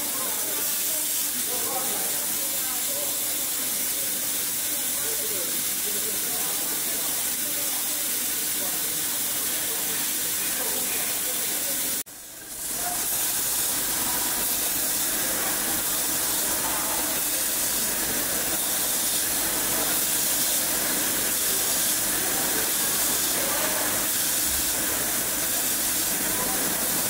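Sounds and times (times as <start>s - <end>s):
laser welding machine hiss: 0.0s - 27.0s.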